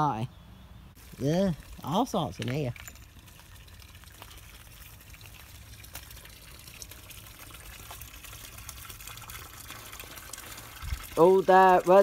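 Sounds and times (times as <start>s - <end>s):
water pouring from a pipe: 1.0s - 12.0s.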